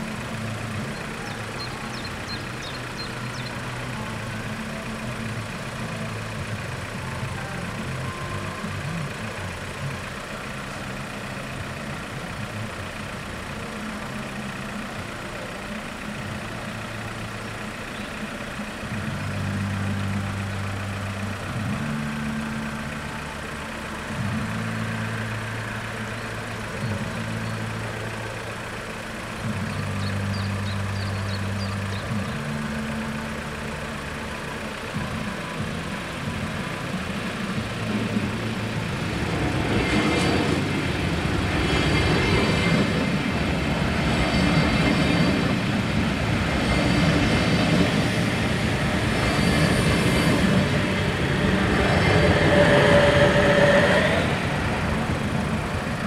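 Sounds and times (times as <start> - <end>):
car engines idling: 0.0 - 56.0.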